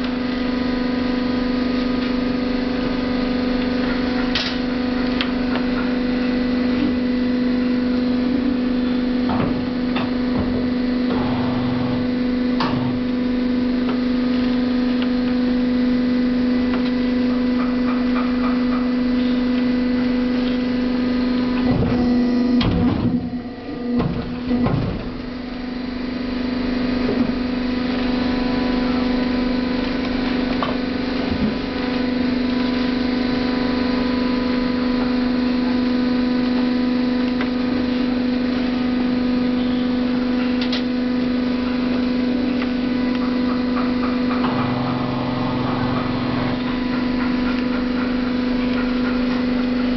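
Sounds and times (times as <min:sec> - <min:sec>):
hydraulic unit humming: 0:00.0 - 0:49.9.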